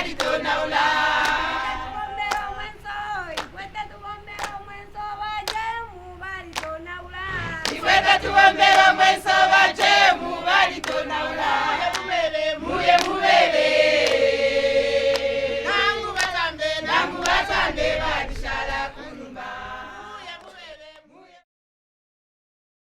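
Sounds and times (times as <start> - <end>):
group of voices singing: 0.0 - 21.4.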